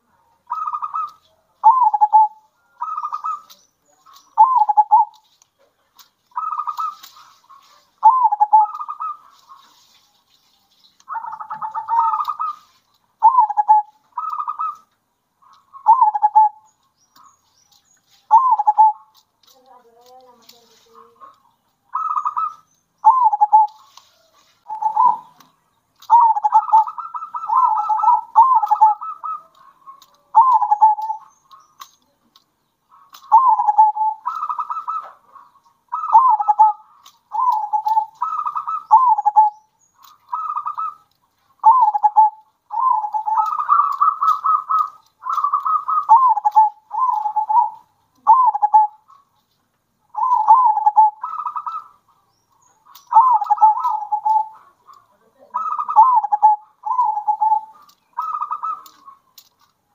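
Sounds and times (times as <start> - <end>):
doves cooing: 0.0 - 10.0, 11.0 - 17.4, 18.2 - 49.4, 50.1 - 59.6.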